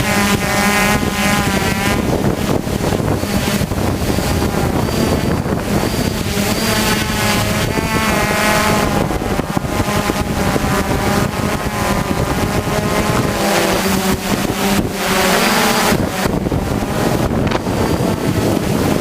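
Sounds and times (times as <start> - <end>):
drone propellers whining: 0.0 - 19.0
wind buffeting microphone: 0.0 - 19.0.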